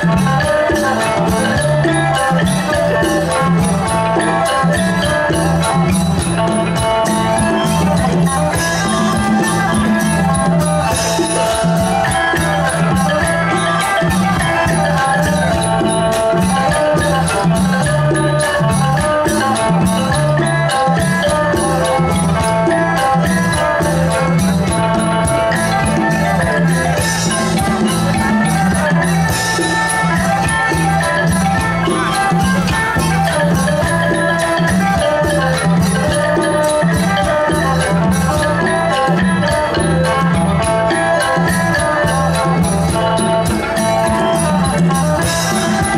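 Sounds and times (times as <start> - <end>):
folk band playing instrumental: 0.0 - 45.9.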